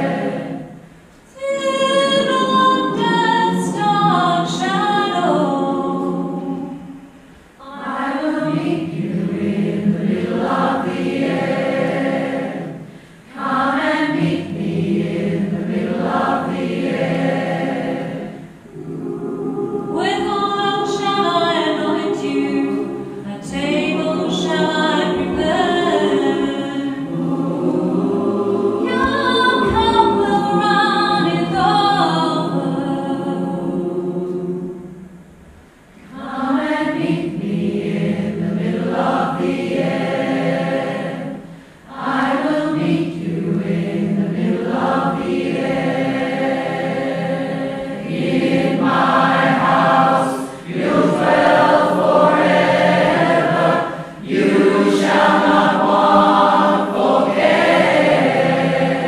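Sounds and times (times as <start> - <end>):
choir singing in harmony: 0.0 - 35.3, 36.0 - 59.0.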